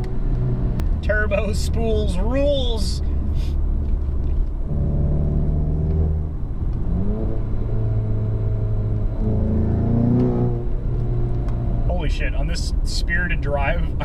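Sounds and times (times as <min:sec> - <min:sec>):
car engine droning while driving: 0:00.0 - 0:14.0.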